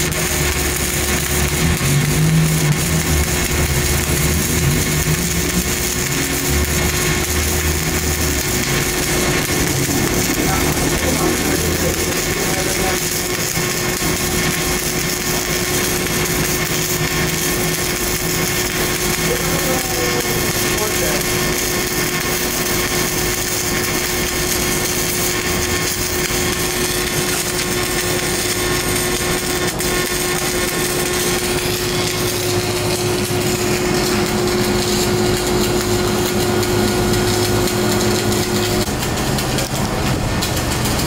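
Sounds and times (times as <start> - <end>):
electric arc crackling hiss: 0.0 - 41.0
low mechanical drone: 0.0 - 41.0
steady hum: 0.0 - 41.0.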